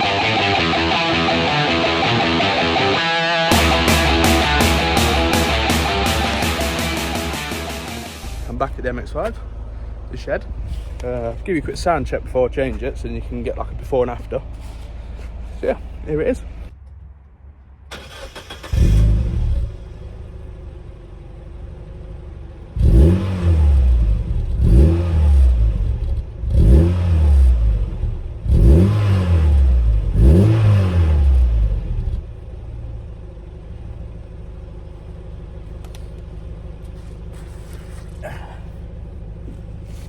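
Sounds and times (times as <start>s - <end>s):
car engine revving and idling: 0.0s - 17.0s, 17.9s - 40.0s.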